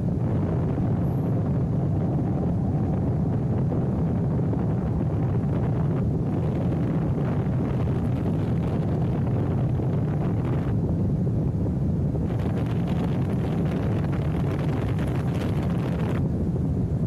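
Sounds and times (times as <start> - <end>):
wind roar on microphone: 0.0 - 17.0.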